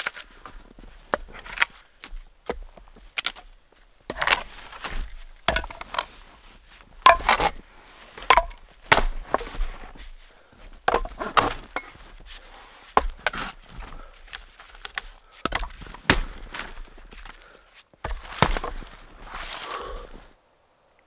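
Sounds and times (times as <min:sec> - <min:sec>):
wood cracking and splintering: 0:00.0 - 0:20.1.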